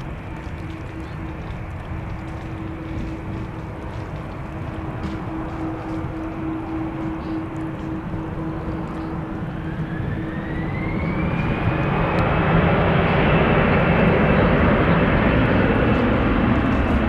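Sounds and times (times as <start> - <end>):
jet engines spooling up: 0.0 - 17.0.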